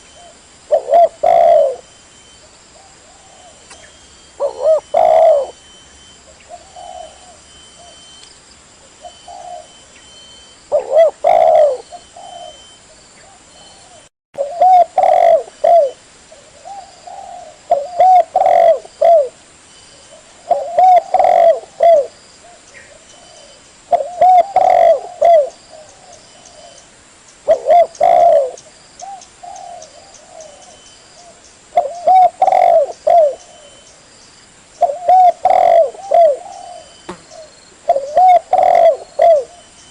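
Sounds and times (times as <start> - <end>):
dove cooing: 0.0 - 1.9, 2.7 - 5.7, 6.3 - 8.1, 9.0 - 19.4, 20.0 - 26.8, 27.4 - 34.0, 34.8 - 39.9.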